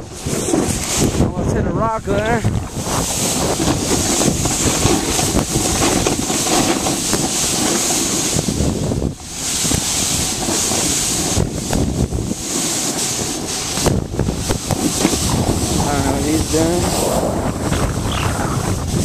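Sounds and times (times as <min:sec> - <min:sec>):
snowboard sliding on snow: 0:00.0 - 0:19.0
wind buffeting microphone: 0:00.0 - 0:19.0.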